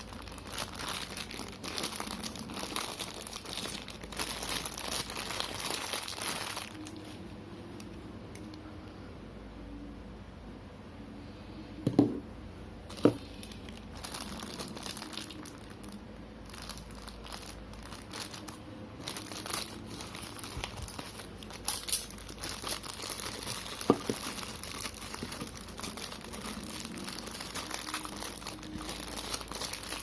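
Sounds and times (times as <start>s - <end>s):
plastic packaging crinkling: 0.0s - 7.2s, 12.9s - 30.0s.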